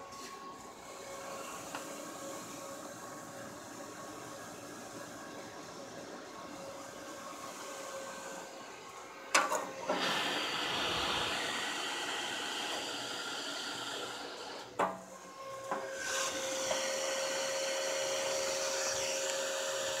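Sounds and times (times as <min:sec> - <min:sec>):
fan whine: 0:00.0 - 0:20.0.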